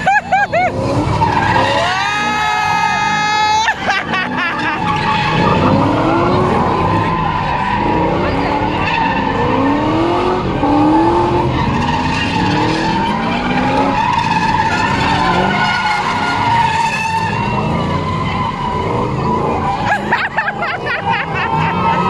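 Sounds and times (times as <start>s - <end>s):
car engines revving: 0.0s - 22.0s
tyres squealing and skidding: 0.0s - 22.0s.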